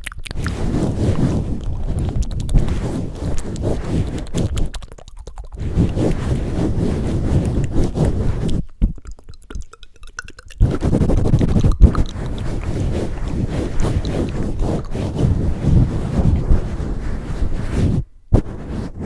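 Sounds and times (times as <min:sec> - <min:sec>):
hands rubbing over microphone: 0:00.3 - 0:09.0, 0:10.5 - 0:19.0.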